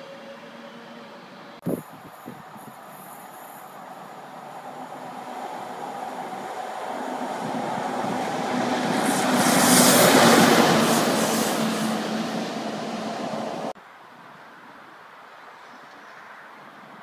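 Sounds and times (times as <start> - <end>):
electric locomotive humming: 0.0 - 13.8
rushing rail noise: 0.0 - 13.8.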